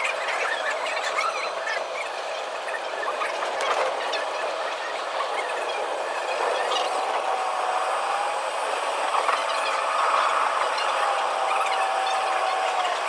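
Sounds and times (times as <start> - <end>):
sped-up tram rattle: 0.0 - 13.0
steady whine: 0.0 - 13.0.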